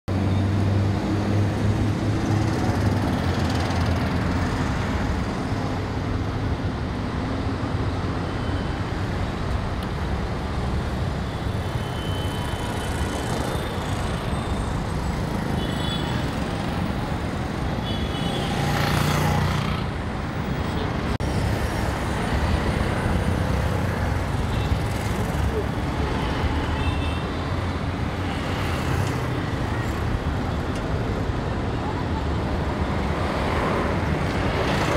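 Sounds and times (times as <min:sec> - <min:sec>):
traffic engines droning: 0:00.1 - 0:34.9.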